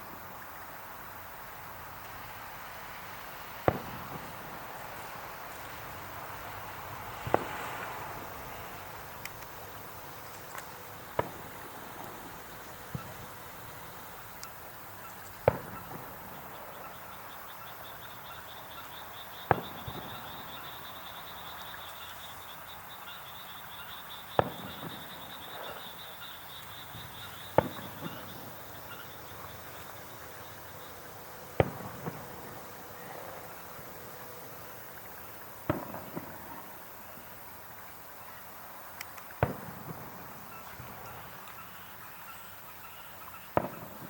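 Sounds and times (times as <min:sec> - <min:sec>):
fireworks bursting with bangs: 0:01.9 - 0:22.0, 0:23.8 - 0:37.6, 0:39.2 - 0:42.1, 0:43.2 - 0:44.0.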